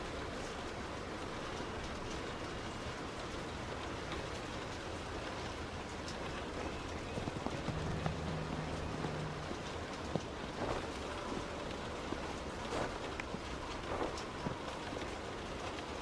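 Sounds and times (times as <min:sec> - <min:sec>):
heavy rain on a car: 0:00.0 - 0:16.0
low steady hum: 0:00.0 - 0:16.0.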